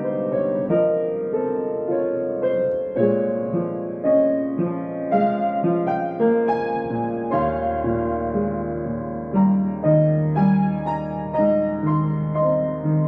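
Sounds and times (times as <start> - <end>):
solo piano playing: 0.0 - 13.0.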